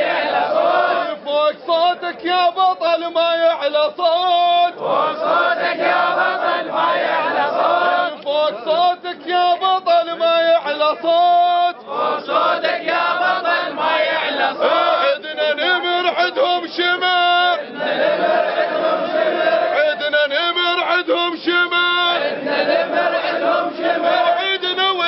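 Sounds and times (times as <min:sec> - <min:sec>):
crowd of men chanting: 0:00.0 - 0:25.0.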